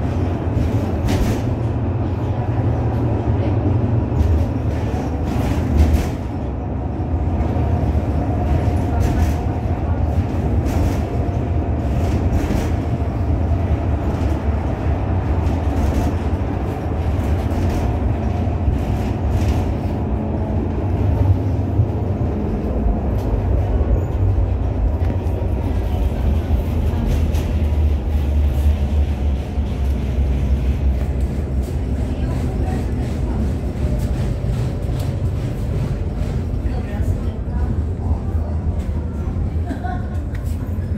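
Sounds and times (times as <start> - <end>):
tram interior rumble: 0.0 - 40.9.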